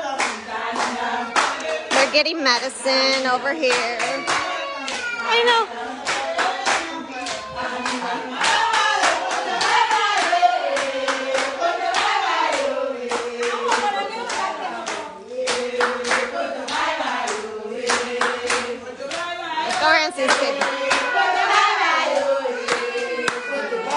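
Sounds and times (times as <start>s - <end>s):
hands clapping in rhythm: 0.0s - 2.2s, 3.7s - 5.4s, 6.0s - 23.9s
women singing together: 0.0s - 23.9s.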